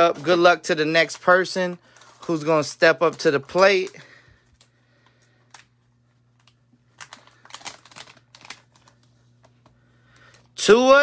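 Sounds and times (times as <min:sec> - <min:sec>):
cards and plastic packaging crinkling: 0:00.0 - 0:11.0.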